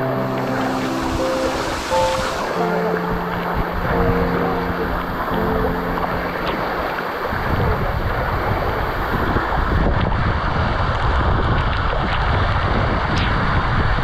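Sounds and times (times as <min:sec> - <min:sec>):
waterfall rushing and splashing: 0:00.0 - 0:14.0.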